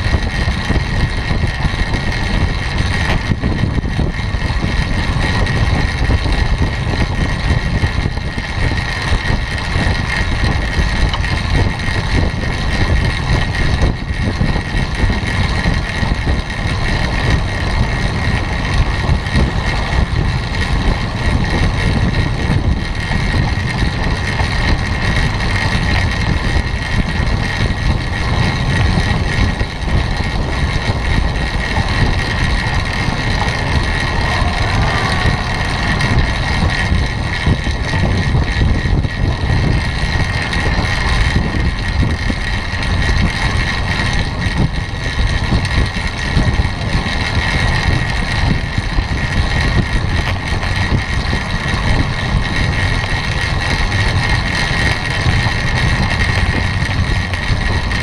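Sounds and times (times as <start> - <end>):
steady high hum: 0.0 - 49.9
bike rolling on wooden boards: 0.0 - 58.0
wind rush on microphone: 0.0 - 58.0.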